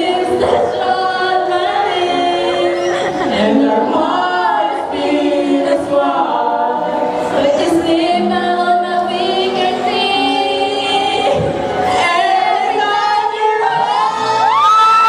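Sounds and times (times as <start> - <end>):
group singing a cappella: 0.0 - 15.0.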